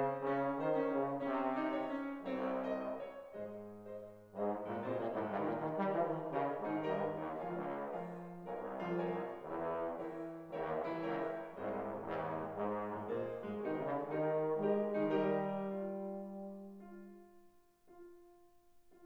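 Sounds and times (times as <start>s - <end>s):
bass trombone melody: 0.0s - 16.8s
piano accompaniment: 0.0s - 19.0s.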